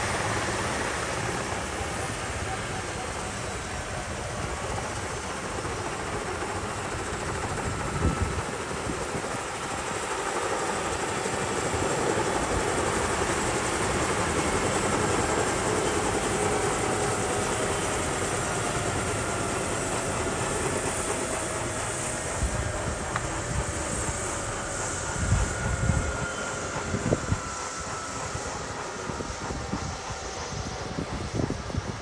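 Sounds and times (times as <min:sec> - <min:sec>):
helicopter in flight: 0:00.0 - 0:32.0.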